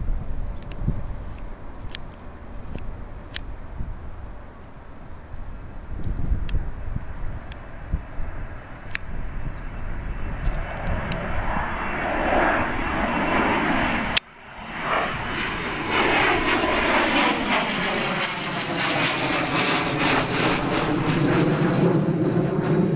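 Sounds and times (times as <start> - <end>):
aircraft passing low overhead: 0.0 - 22.9
jet climbing away: 0.1 - 22.9.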